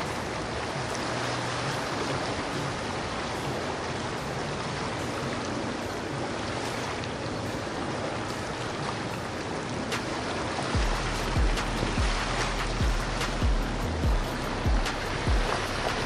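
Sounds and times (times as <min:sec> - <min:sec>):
low boat engine hum: 0:00.0 - 0:16.0
water splashing off boat hull: 0:00.0 - 0:16.0.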